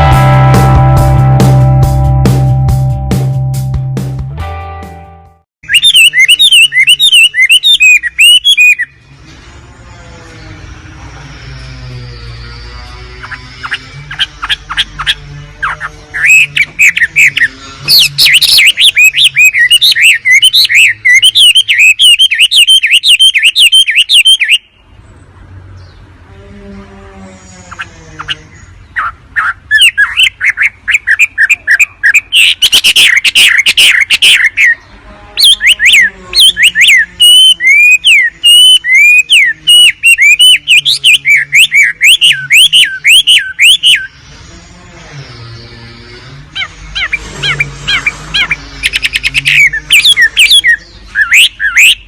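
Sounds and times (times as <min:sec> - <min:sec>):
recorded bird sharp chirps: 0:05.6 - 0:25.2, 0:27.4 - 0:52.0.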